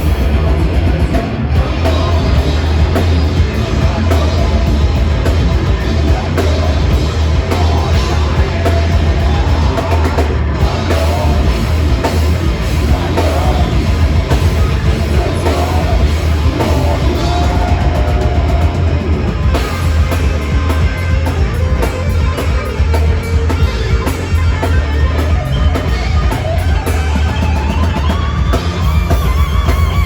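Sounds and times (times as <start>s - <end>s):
drum kit pounding: 0.0s - 30.0s
heavy metal band playing live: 0.0s - 30.0s.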